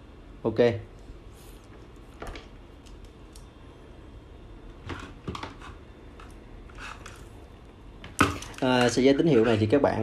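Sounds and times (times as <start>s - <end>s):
low room hiss: 0.0s - 10.0s.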